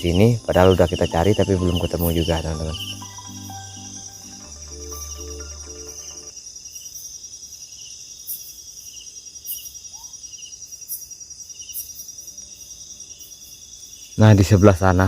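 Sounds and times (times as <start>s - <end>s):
cricket trill: 0.0s - 15.0s
insect chirping: 0.0s - 15.0s.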